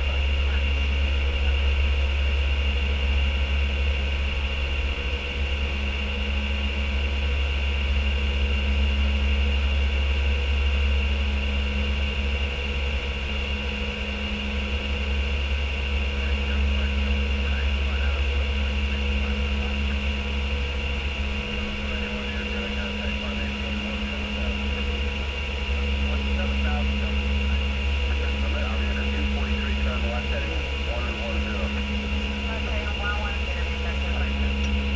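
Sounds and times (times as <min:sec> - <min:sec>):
deep drone of aircraft engines: 0:00.0 - 0:34.9.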